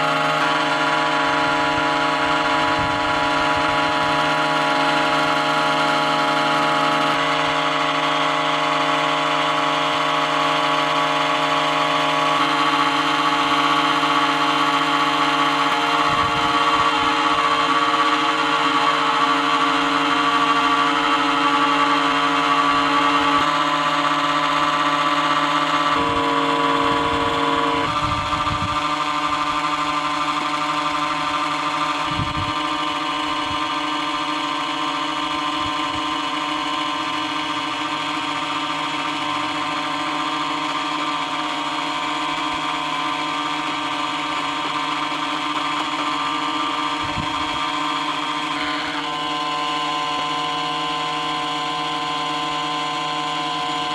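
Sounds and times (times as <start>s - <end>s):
compressor and fan humming drone: 0.0s - 53.9s.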